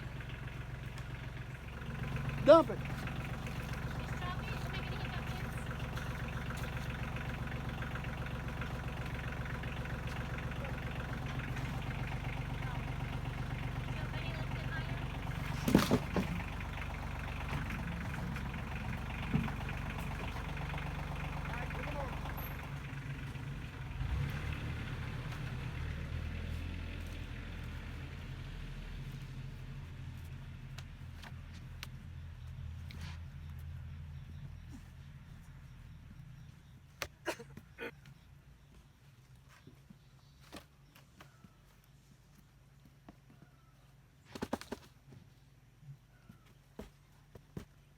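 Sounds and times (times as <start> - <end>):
tractor engine idling: 0.0 - 39.5.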